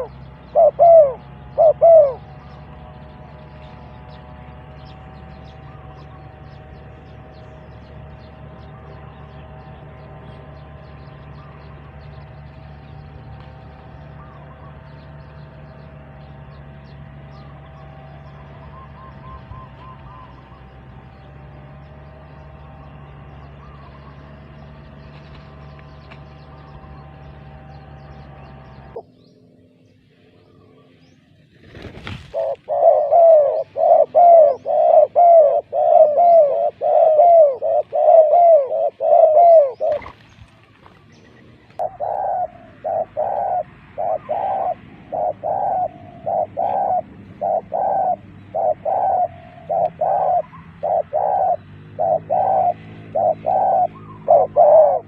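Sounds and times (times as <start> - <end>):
dove cooing: 0.0 - 25.3, 31.6 - 55.0
faint bird calls: 0.0 - 55.0
steady low hum: 0.0 - 55.0.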